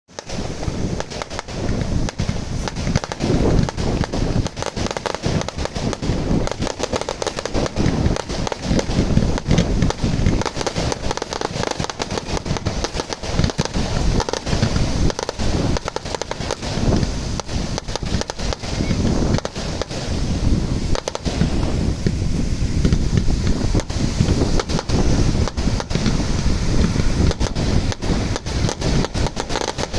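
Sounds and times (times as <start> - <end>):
fireworks bangs and crackles: 0.1 - 29.9
low fireworks booming: 0.1 - 29.9.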